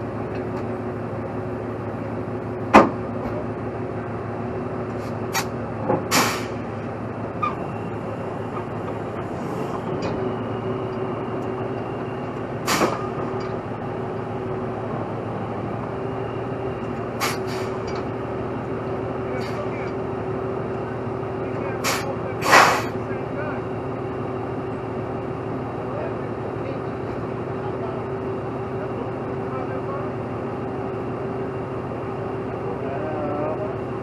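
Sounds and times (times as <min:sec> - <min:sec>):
heavy truck engine humming: 0:00.0 - 0:34.0.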